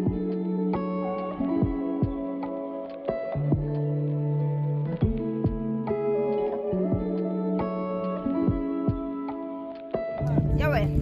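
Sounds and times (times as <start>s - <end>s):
instrumental guitar music with beat: 0.0s - 11.0s.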